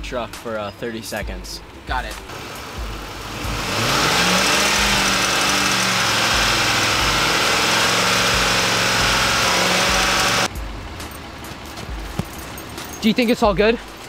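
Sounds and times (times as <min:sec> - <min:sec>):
truck engine revving steadily: 0:00.0 - 0:14.0.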